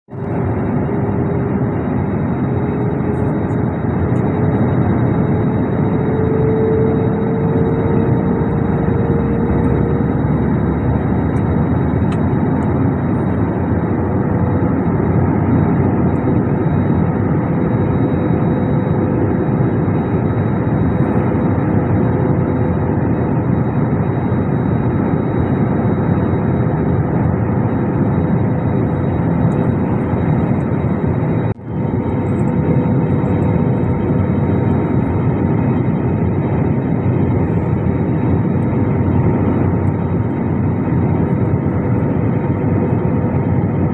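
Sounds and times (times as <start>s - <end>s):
faint constant whine: 0.1s - 43.9s
jet airliner cabin noise: 0.1s - 43.9s.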